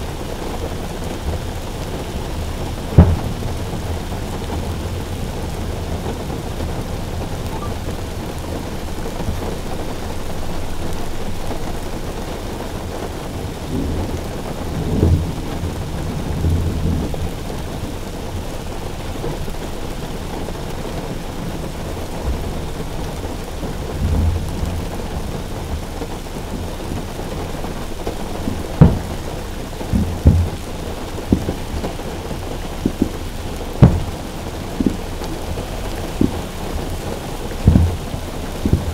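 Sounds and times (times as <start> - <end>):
rain on a car roof: 0.0 - 38.9
thunder rolling: 0.0 - 38.9.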